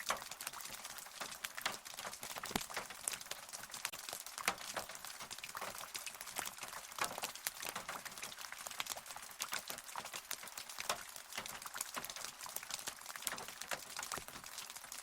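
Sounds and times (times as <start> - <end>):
raindrops ticking: 0.0 - 15.0.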